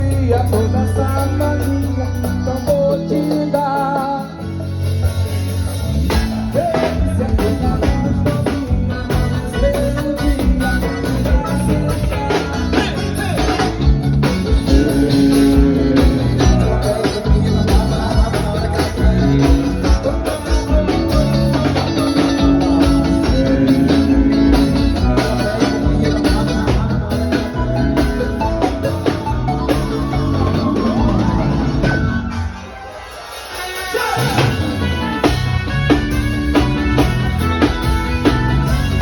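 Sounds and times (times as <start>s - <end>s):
person singing: 0.0s - 32.8s
band music over loudspeakers: 0.0s - 39.0s.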